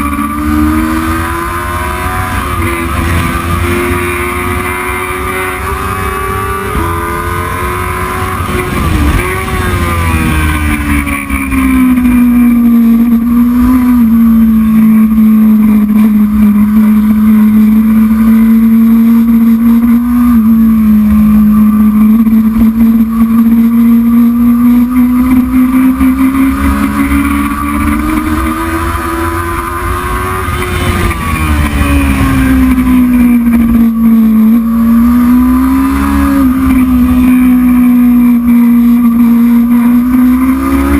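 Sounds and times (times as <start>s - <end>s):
racing motorcycle engine: 0.0s - 40.9s.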